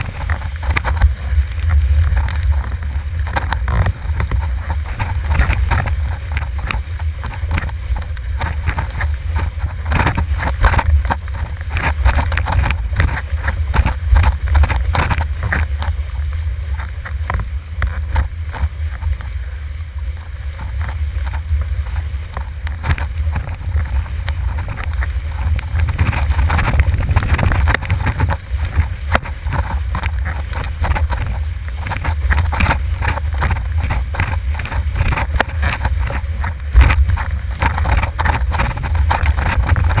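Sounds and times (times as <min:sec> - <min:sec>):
board slapping over choppy water: 0:00.0 - 0:40.0
wind buffeting microphone: 0:00.0 - 0:40.0.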